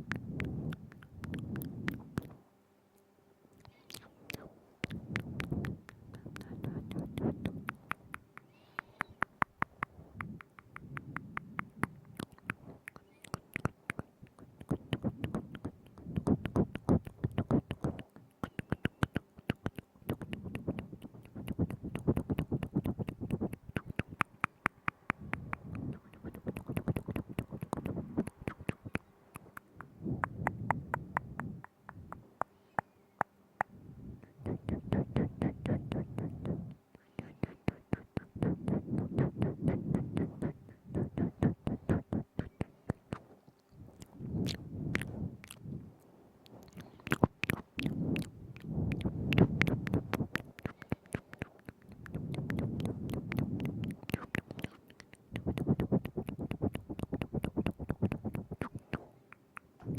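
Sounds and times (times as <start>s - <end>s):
wet tongue and lip clicks: 0.0s - 2.4s, 3.6s - 45.8s, 46.4s - 59.9s.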